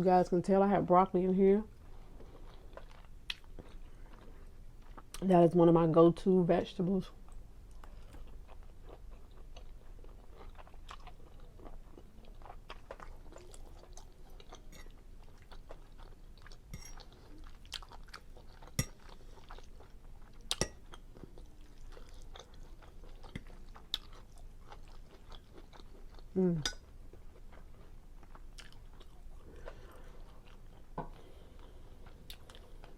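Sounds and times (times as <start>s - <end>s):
chewing food: 1.8s - 5.2s, 7.2s - 32.9s.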